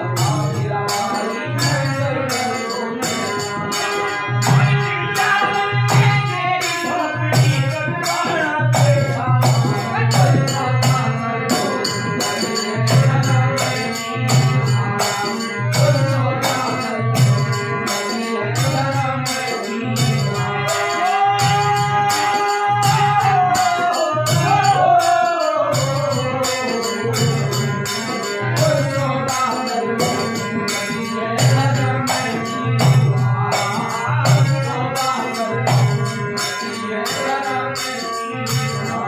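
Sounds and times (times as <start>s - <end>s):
harmonium chords: 0.0s - 39.0s
men singing: 0.0s - 39.0s.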